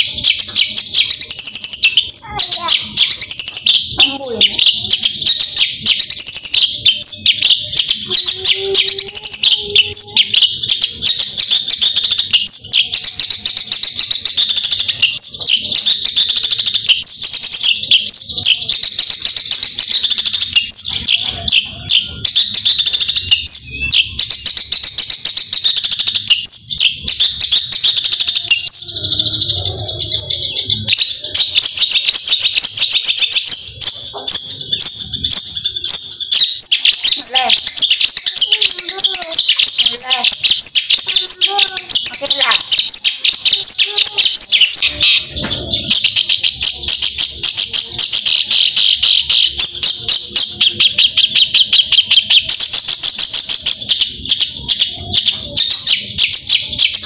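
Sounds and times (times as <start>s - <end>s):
bird singing chattering notes: 0.0s - 57.0s.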